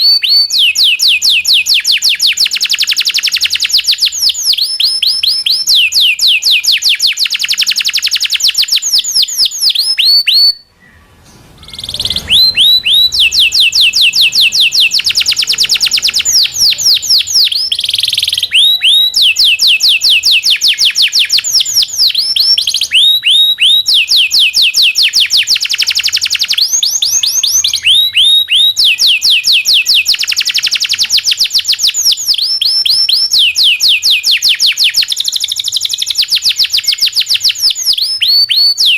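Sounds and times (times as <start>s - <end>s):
canary singing rolling trills: 0.0s - 38.9s.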